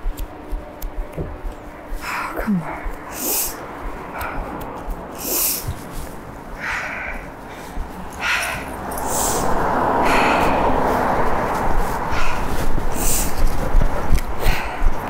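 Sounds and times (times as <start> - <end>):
street background noise: 0.0 - 15.0
person breathing in short puffs: 2.0 - 15.0.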